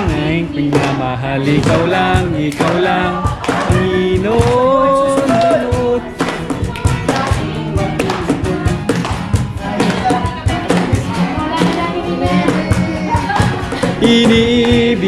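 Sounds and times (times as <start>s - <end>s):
worship music over steady beat: 0.0s - 15.0s.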